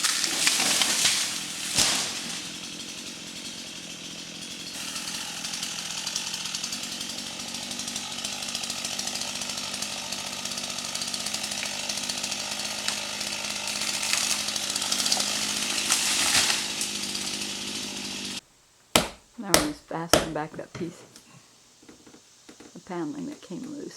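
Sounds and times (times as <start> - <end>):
chainsaw cutting tree: 0.0 - 18.4, 19.0 - 20.9.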